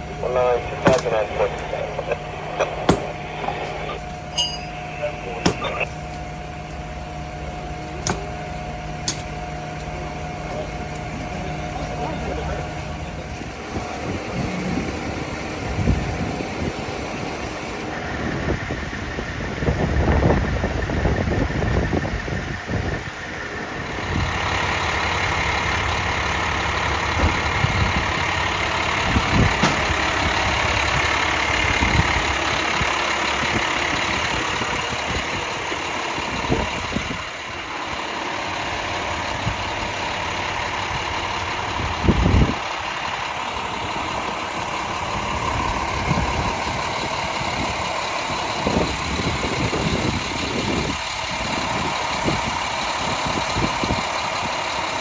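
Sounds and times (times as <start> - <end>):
fire engine idling: 0.0 - 55.0.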